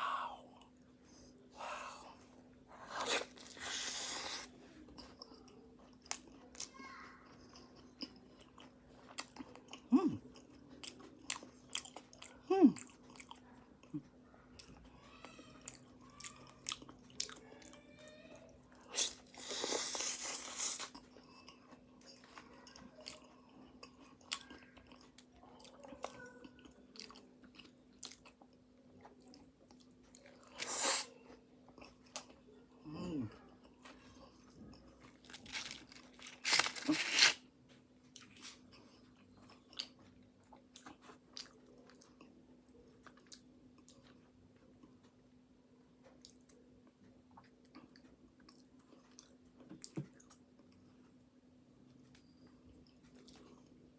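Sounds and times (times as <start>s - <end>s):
faint steady hum: 0.0s - 53.9s
chewing and crunching pastry: 0.5s - 53.9s.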